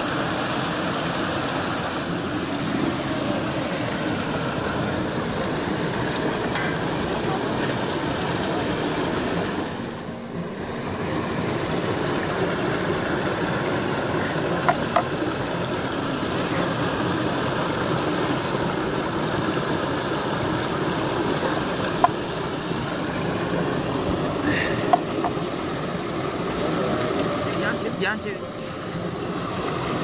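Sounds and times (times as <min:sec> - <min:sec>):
waterfall rushing over rocks: 0:00.0 - 0:30.0.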